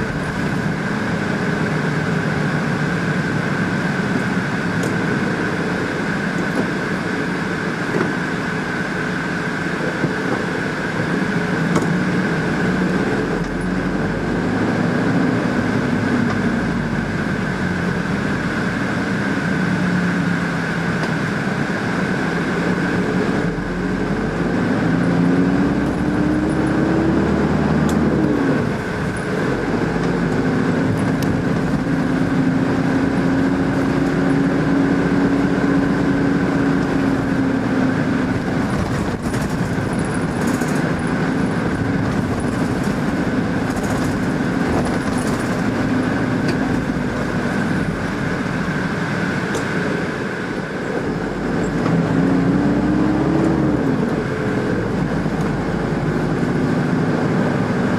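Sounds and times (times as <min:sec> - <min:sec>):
motor vehicle engine running: 0:00.0 - 0:57.9.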